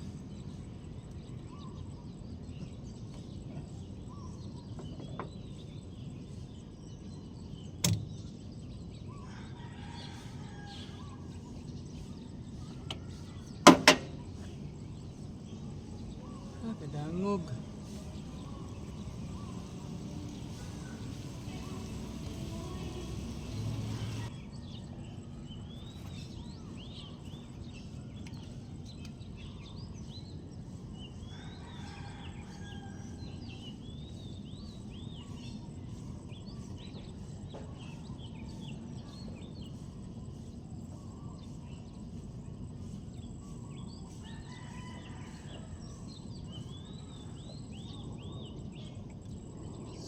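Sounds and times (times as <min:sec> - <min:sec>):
low background rumble: 0:00.0 - 0:44.5
bird chirps: 0:00.0 - 0:50.0.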